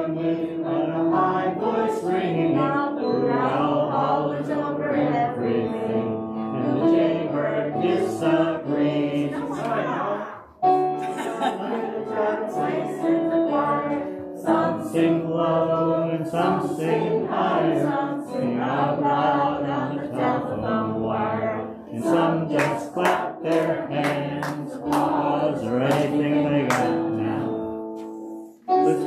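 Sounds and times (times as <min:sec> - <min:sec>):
group of voices singing: 0:00.0 - 0:27.8, 0:28.7 - 0:29.0.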